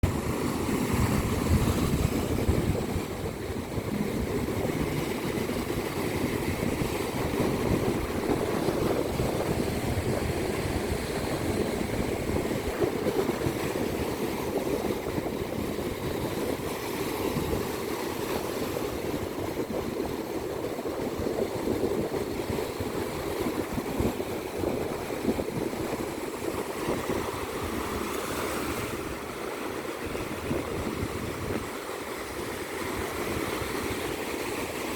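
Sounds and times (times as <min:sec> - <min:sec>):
ocean waves on beach: 0:00.0 - 0:34.9.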